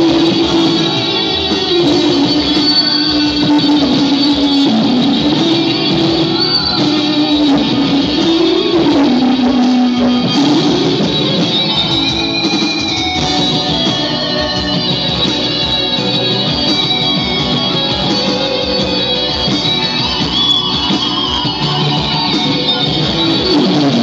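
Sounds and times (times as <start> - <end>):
electric guitar bending notes: 0.0 - 24.0.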